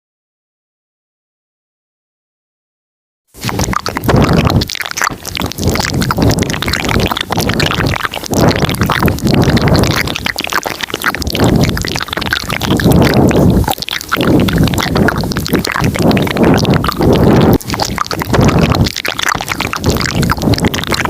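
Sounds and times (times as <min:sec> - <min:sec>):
low rumbling wash: 0:03.4 - 0:21.0
mouth clicks and smacks: 0:03.4 - 0:21.0.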